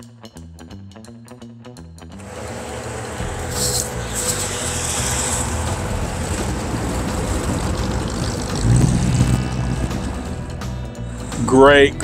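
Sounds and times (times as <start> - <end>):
car engine rumbling: 2.2 - 12.0.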